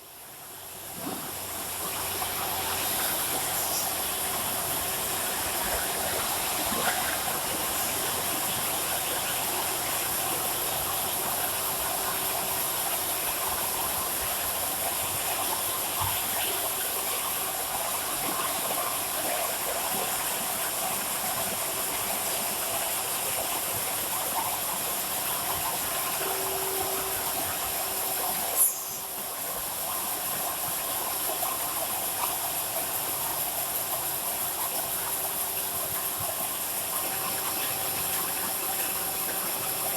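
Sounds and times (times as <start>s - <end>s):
welding machine hum and hiss: 0.0s - 39.9s.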